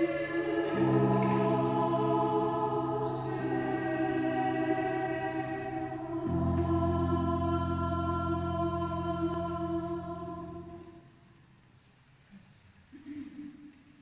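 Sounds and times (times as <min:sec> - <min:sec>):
choir singing held chords: 0:00.0 - 0:11.2.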